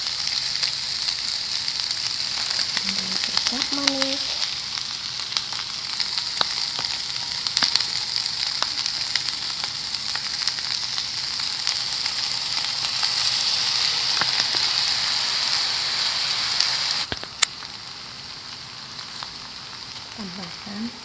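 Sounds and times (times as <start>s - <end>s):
crackles and pops: 0.0s - 21.0s
noodles sizzling in a hot pan: 0.0s - 21.0s.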